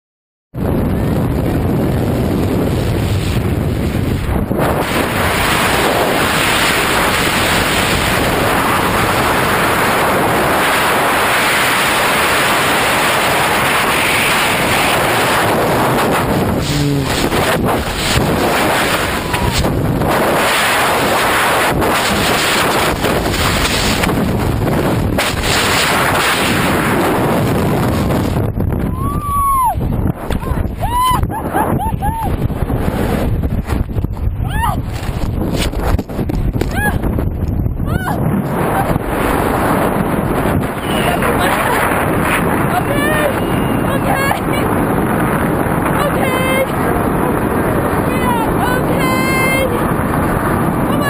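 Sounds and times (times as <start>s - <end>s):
wind buffeting microphone: 0.6s - 51.0s.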